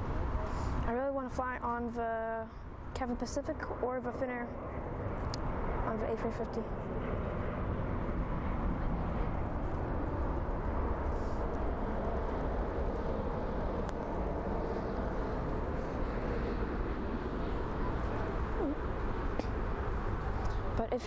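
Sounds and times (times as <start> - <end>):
jet aircraft rumble: 0.0 - 21.0.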